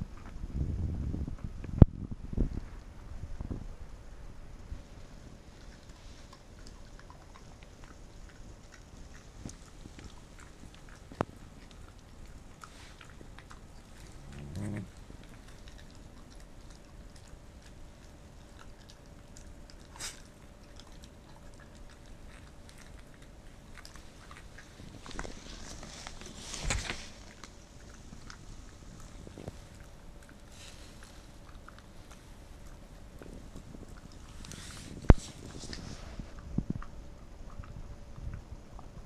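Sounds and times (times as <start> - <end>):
low room noise: 0.0 - 39.0
faint nibbling ticks: 4.6 - 39.0.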